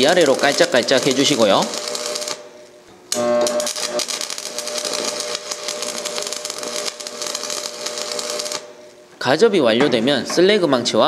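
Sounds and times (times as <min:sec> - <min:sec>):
welding arc crackling: 0:00.0 - 0:09.1.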